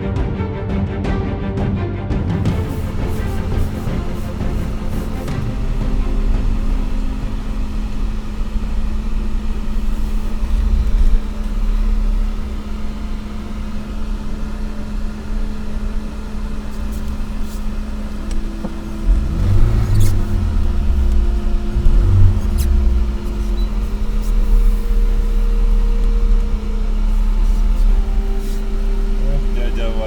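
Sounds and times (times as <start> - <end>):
higher hum: 2.2 - 30.0
vehicle engine running: 2.2 - 30.0.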